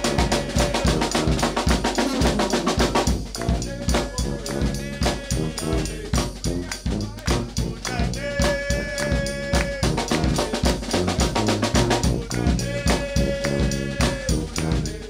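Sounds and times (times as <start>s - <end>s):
bass drum and snare beat: 0.0s - 15.0s
brass band playing: 0.0s - 15.0s
sousaphone bass line: 0.0s - 15.0s.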